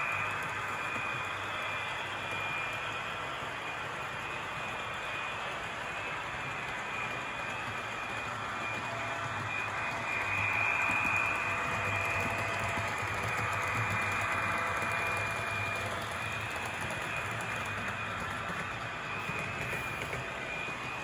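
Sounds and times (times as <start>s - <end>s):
model train motor whine: 0.0s - 21.0s.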